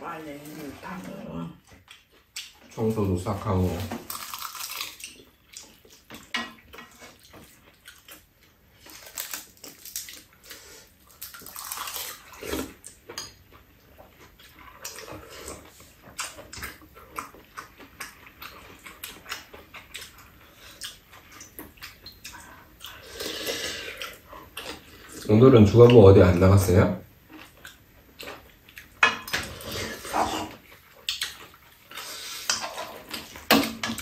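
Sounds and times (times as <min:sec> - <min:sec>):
chewing: 0:00.4 - 0:02.8, 0:03.7 - 0:25.3, 0:27.3 - 0:34.0.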